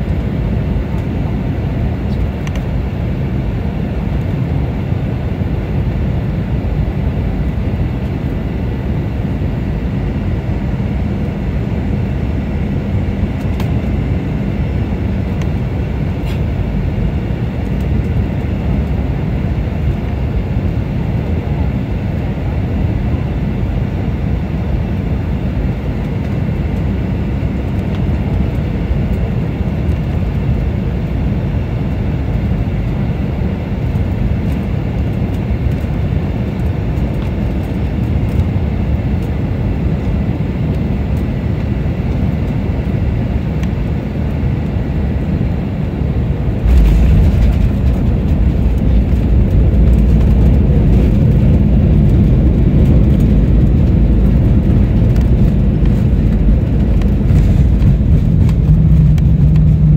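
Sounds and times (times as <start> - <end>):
airliner cabin engine noise: 0.0 - 59.9
wheels rumbling on runway: 0.0 - 59.9.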